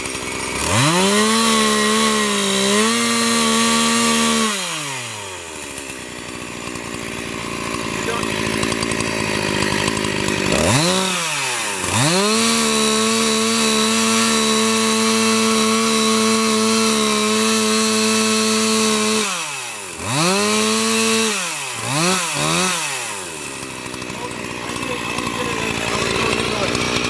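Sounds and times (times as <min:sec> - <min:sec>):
chainsaw engine revving: 0:00.0 - 0:27.0.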